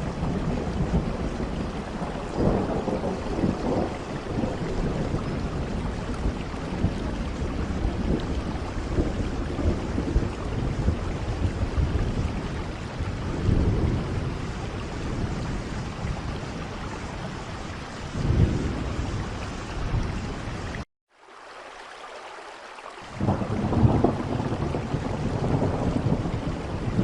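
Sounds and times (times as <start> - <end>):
thunder rolling: 0.0 - 20.6, 23.1 - 27.0
steady rain falling: 0.0 - 27.0.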